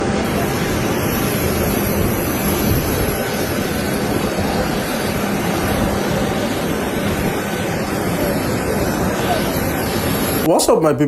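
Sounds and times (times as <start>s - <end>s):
faint hum: 0.0s - 11.0s
jet engines rushing: 0.0s - 11.0s.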